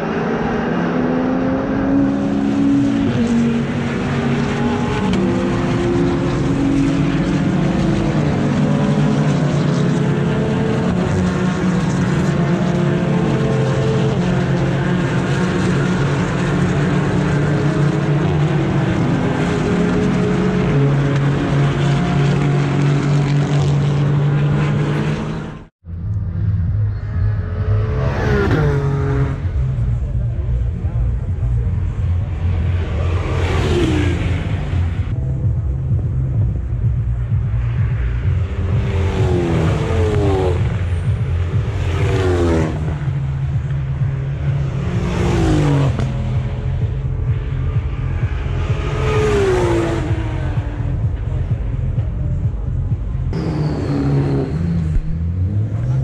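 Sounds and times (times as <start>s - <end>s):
race car engines: 0.0s - 56.0s.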